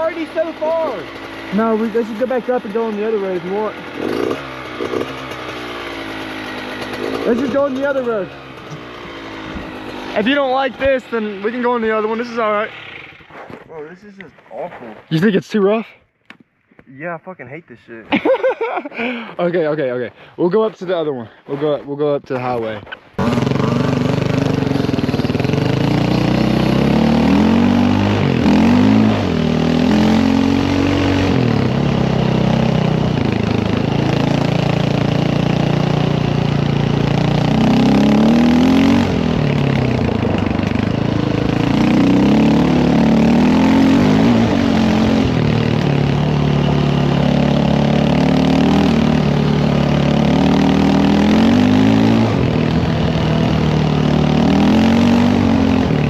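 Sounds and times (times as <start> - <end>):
dirt bike engine revving: 0.0 - 13.6, 23.2 - 56.0.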